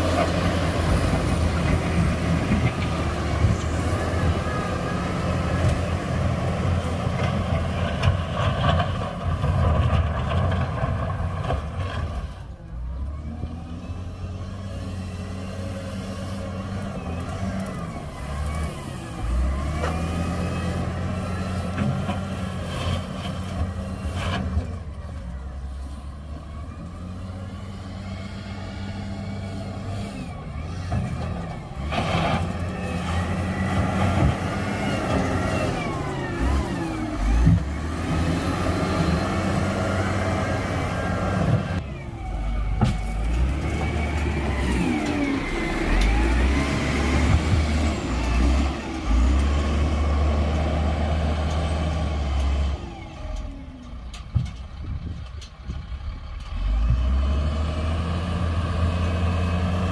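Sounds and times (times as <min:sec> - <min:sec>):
diesel machinery engines revving: 0:00.0 - 0:59.9.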